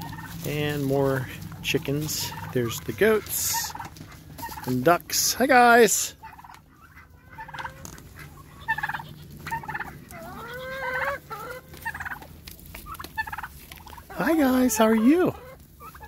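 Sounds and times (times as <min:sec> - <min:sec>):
turkeys calling: 0:00.0 - 0:16.0.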